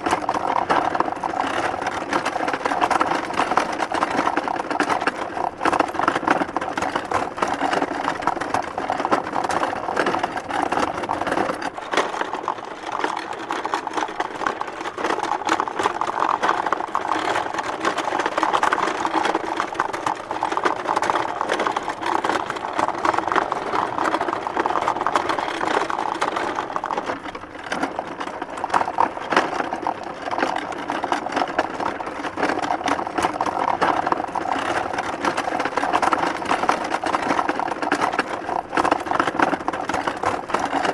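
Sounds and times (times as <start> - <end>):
wooden cart rattling on dirt road: 0.0 - 40.9.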